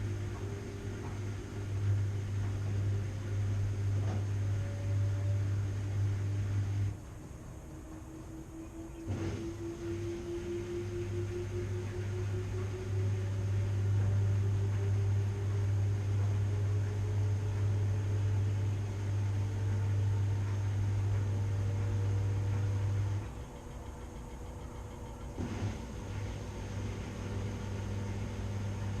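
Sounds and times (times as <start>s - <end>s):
washing machine running: 0.0s - 29.0s.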